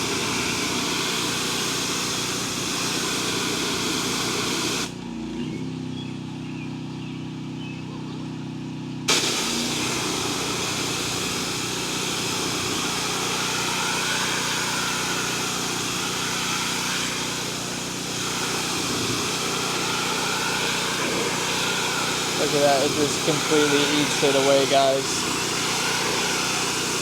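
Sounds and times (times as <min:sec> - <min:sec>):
water spray hissing: 0:00.0 - 0:04.9, 0:09.1 - 0:27.0
engine running steadily: 0:00.0 - 0:27.0.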